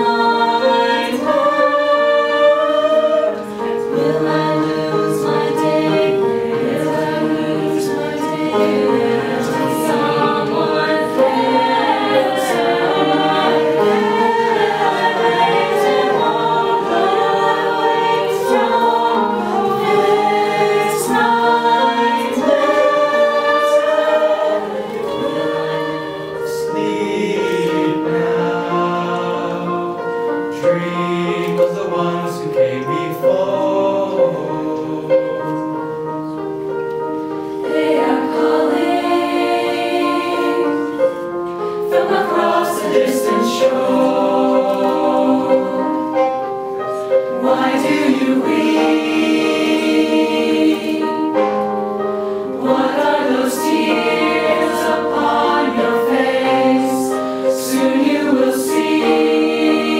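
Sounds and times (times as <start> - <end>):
mixed choir singing in parts: 0.0 - 36.4, 37.1 - 59.9.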